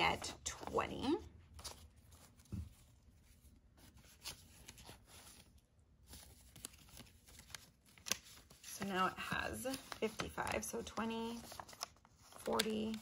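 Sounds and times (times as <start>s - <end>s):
banknotes rustling: 0.0s - 13.0s
plastic envelope handled: 1.5s - 13.0s.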